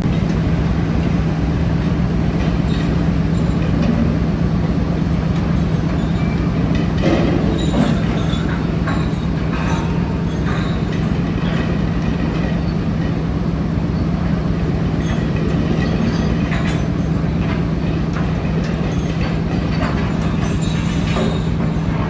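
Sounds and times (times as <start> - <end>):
metallic clanks and rattles: 0.0 - 13.3, 14.2 - 22.0
low machinery drone: 0.0 - 22.0.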